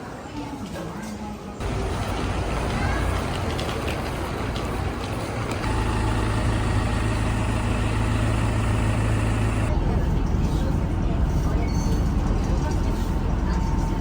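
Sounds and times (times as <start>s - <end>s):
bus engine droning: 1.6s - 14.0s.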